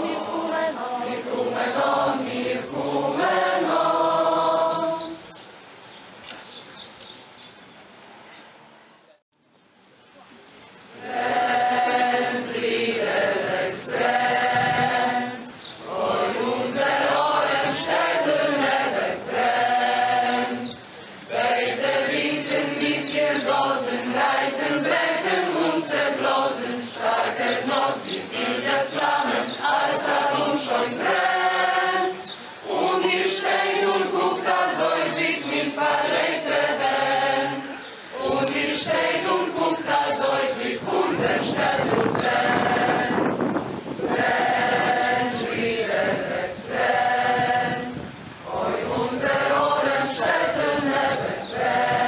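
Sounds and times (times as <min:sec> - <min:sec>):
choir singing: 0:00.0 - 0:05.4, 0:11.0 - 0:52.0.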